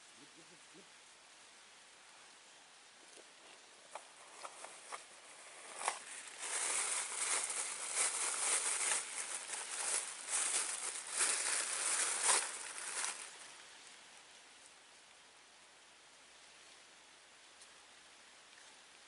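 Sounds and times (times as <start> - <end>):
crackling rustling hiss: 0.0 - 19.0.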